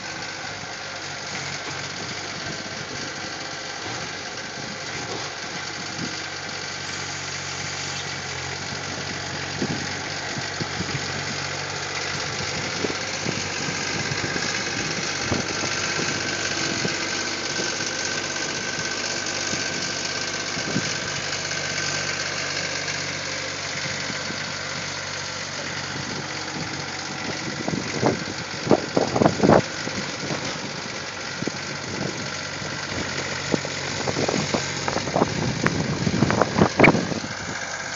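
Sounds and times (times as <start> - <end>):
skid steer engine running: 0.0 - 37.9.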